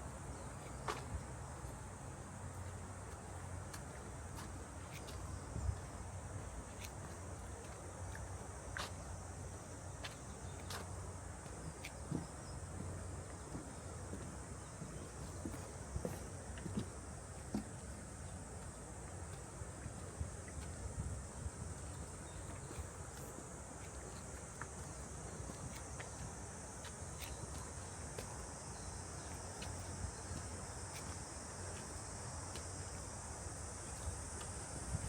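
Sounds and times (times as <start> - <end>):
cicadas chorus: 0.0 - 35.0.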